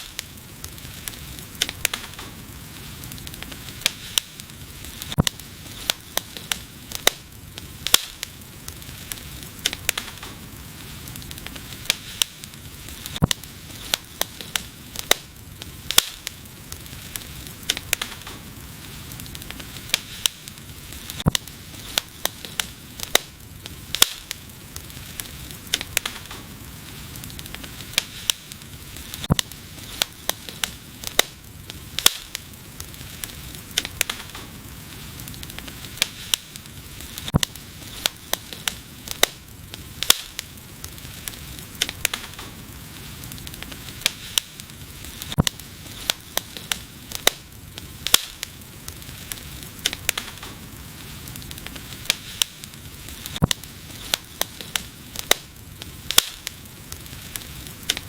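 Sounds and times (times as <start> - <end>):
fire crackles and pops: 0.0 - 58.0
fire hissing: 0.0 - 58.0.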